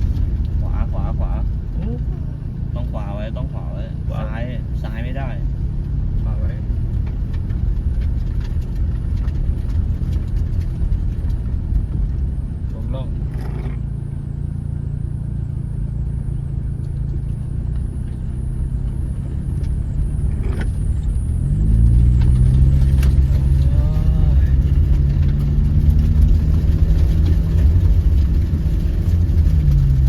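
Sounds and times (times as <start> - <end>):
car engine under load: 0.0 - 30.0.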